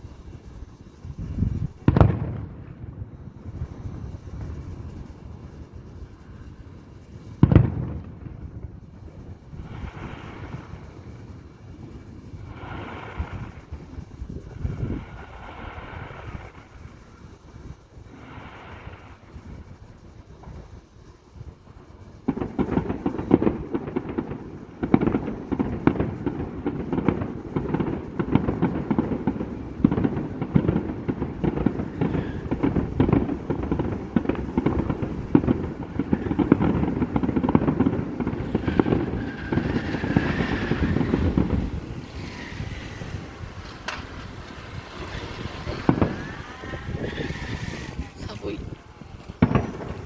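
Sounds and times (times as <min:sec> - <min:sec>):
fireworks booming and crackling: 0:00.0 - 0:50.0.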